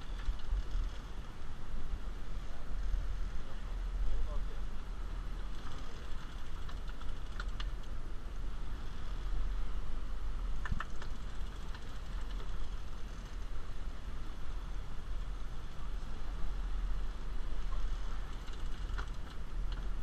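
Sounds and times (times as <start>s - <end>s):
boat engine idling: 0.0s - 20.0s
water noise: 0.0s - 20.0s
wind: 0.0s - 20.0s.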